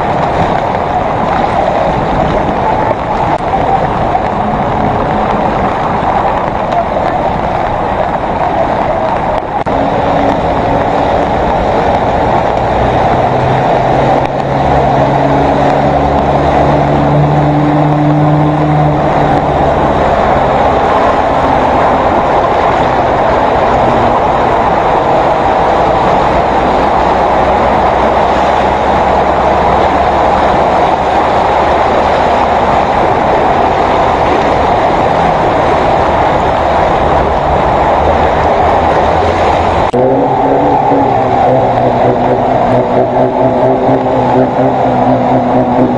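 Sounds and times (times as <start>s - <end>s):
pickup truck engines running: 0.0s - 45.9s
rush of churned water: 0.0s - 45.9s.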